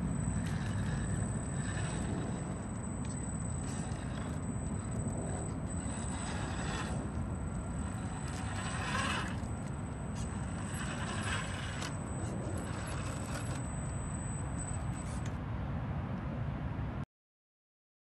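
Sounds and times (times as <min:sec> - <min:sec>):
steady low rumble: 0:00.0 - 0:15.3
toy car motor whining: 0:00.0 - 0:15.3
thin high whine: 0:00.0 - 0:15.4.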